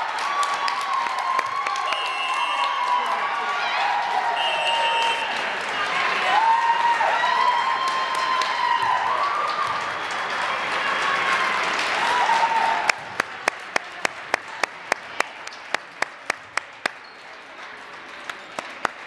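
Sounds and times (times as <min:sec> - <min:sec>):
applause and cheering: 0:00.0 - 0:19.0.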